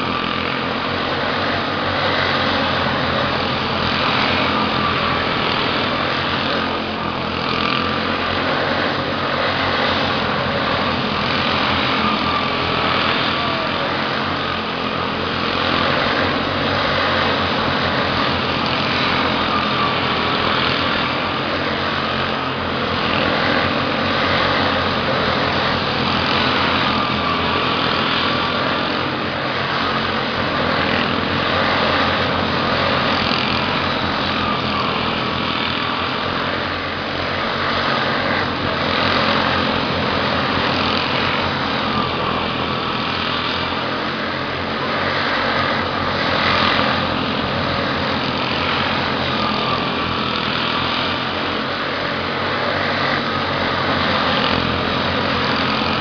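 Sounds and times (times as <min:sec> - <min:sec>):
race car engines whining: 0:00.0 - 0:56.0.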